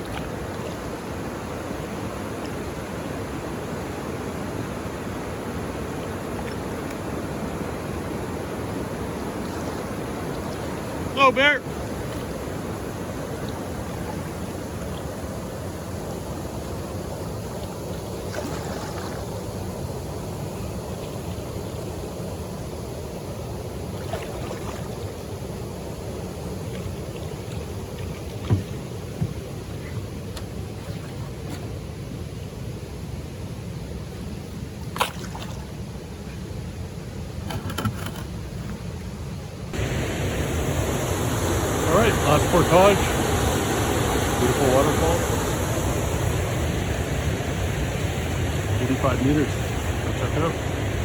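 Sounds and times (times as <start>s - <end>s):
canoe paddle splashes: 0.0s - 32.0s, 34.3s - 36.4s, 39.7s - 50.9s
water rushing from waterfall: 0.0s - 37.7s, 38.8s - 51.0s.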